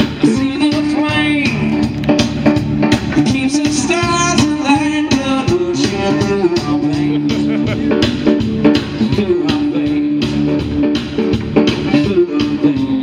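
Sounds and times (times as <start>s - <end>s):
person singing: 0.0s - 1.9s, 3.1s - 11.0s, 11.6s - 13.0s
blues band playing: 0.0s - 13.0s.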